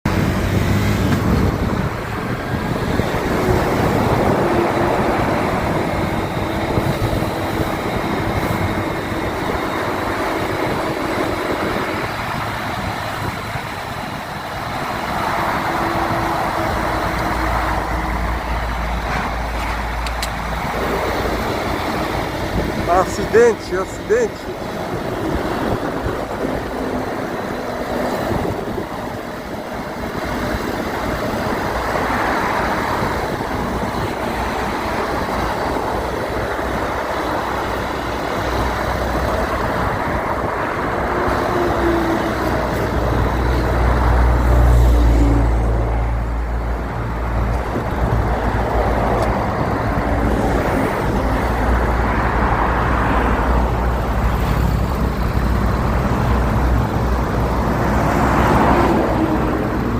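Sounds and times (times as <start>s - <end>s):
highway traffic passing: 0.0s - 59.9s
heavy vehicle rumbling by: 0.1s - 59.9s.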